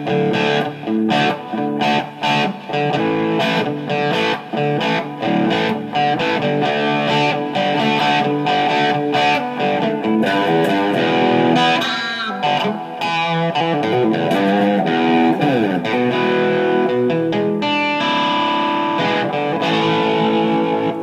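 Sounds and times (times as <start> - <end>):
electric guitar through effects: 0.0 - 21.0.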